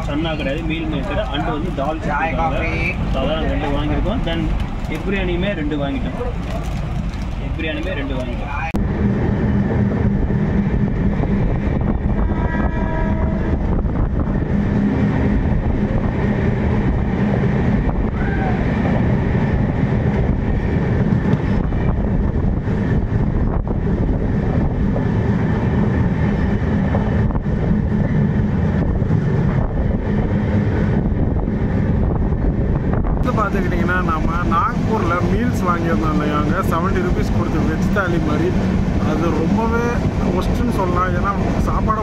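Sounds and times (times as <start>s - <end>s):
train running noise from inside: 0.0s - 42.0s.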